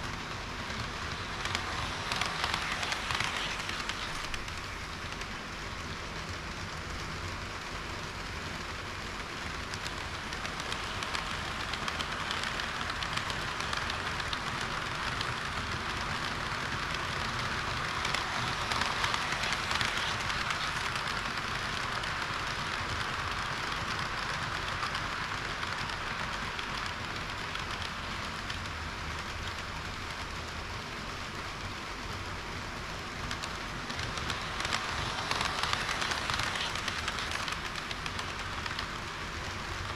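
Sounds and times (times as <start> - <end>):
model train wheels rattling: 0.0 - 39.9.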